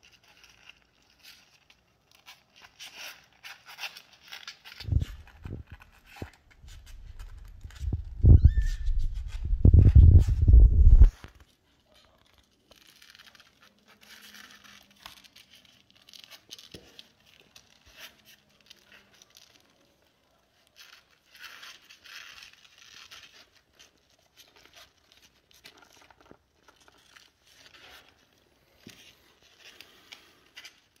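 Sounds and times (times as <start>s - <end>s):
claws scratching on cardboard: 0.0s - 31.0s.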